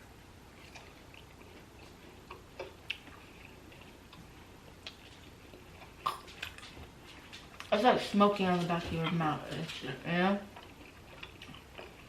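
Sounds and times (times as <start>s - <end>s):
faint chewing: 0.5s - 12.0s.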